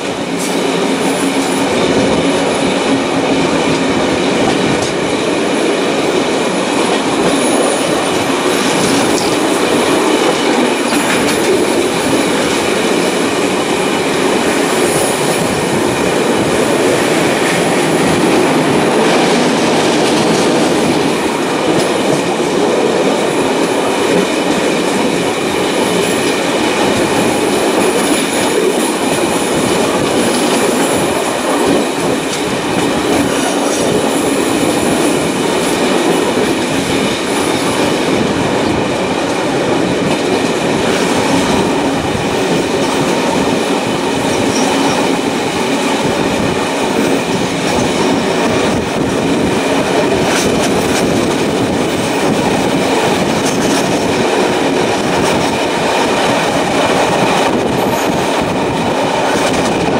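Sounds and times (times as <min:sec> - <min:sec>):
train wheels rolling on track: 0:00.0 - 0:59.9.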